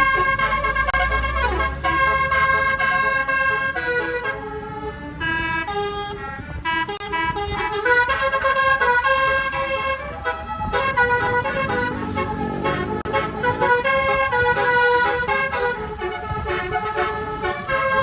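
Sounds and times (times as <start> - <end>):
bus horn playing a tune: 0.0 - 18.0.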